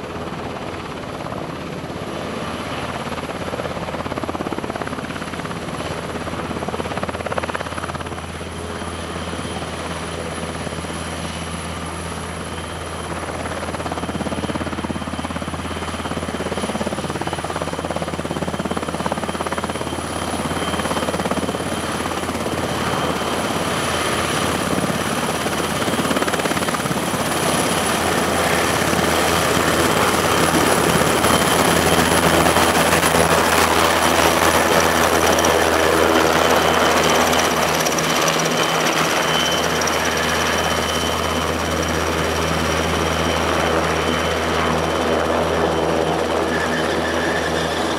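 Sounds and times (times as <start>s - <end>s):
helicopter rotor drone: 0.0s - 47.9s
helicopter turbine whine: 0.0s - 47.9s.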